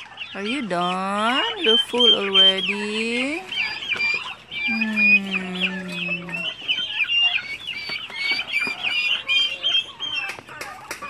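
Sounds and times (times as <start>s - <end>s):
chicks peeping: 0.0s - 11.0s
low falling bird call: 1.6s - 10.5s.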